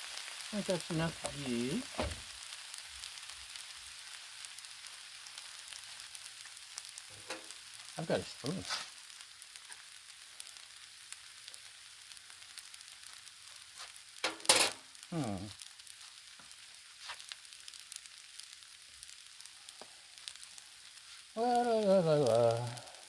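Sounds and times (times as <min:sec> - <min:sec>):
food sizzling on a griddle: 0:00.0 - 0:23.0.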